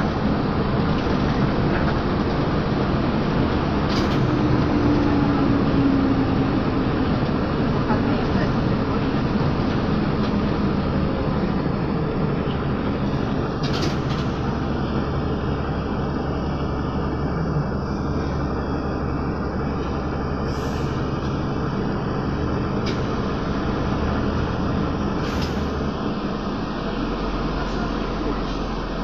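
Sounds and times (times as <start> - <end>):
trolleybus low hum and road noise: 0.0 - 29.0.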